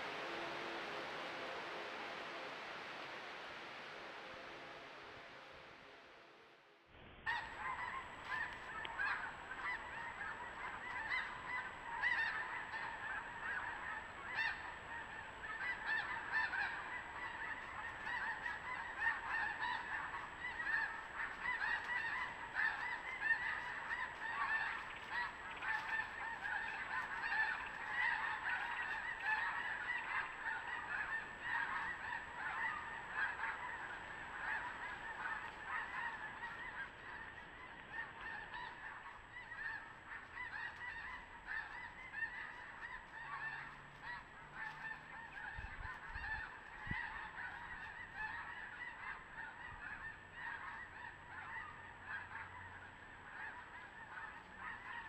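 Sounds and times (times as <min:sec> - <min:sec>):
geese honking: 0:07.3 - 0:55.0.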